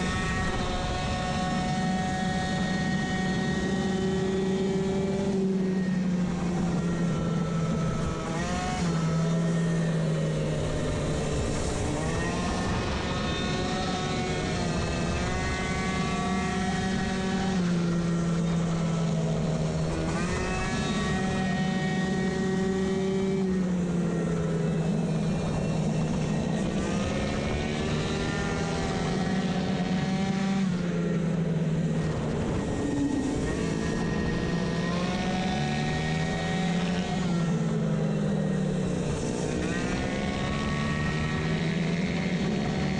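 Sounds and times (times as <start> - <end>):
moped engine revving high: 0.0 - 42.9.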